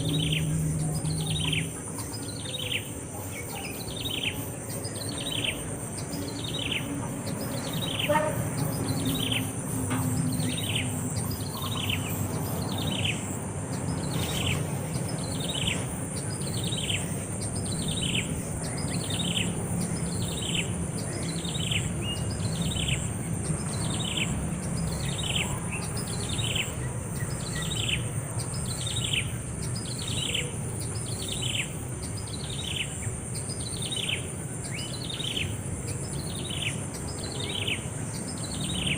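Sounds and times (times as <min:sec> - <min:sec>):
high insect-like whine: 0:00.0 - 0:38.9.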